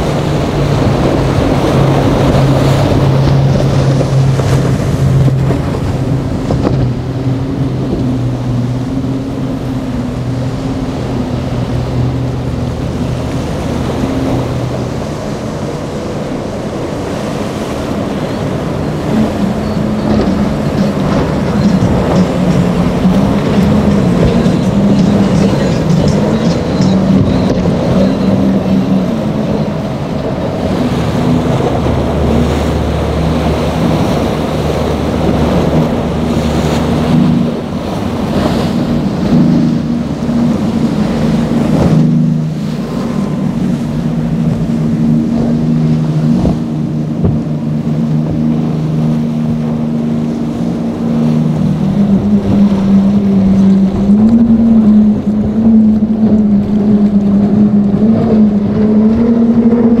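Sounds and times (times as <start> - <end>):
powerboat outboard engines: 0.0 - 60.0
wind: 0.0 - 60.0.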